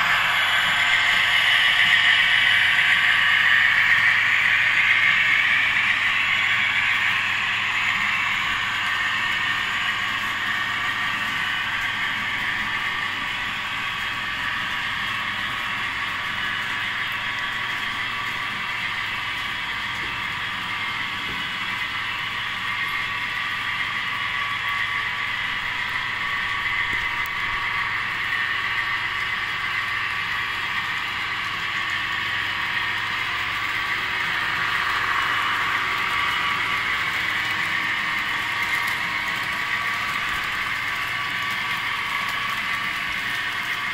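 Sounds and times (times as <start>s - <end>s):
model train wheels rolling on track: 0.0s - 43.9s.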